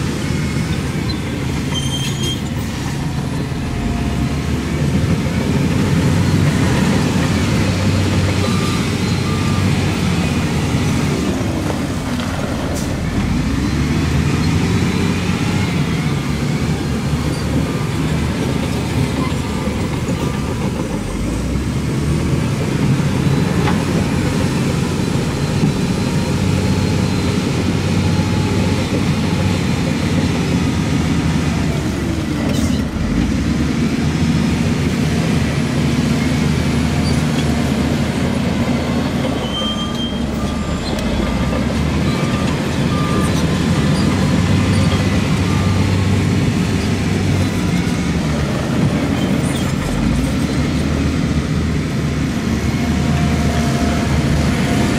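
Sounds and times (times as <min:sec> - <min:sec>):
heavy machine diesel engines: 0:00.0 - 0:54.9.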